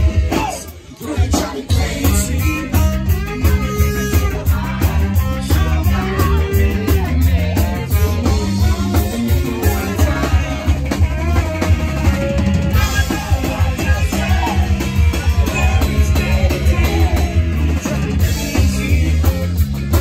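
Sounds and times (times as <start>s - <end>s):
live reggae rock band: 0.0s - 20.0s
person singing: 0.0s - 20.0s.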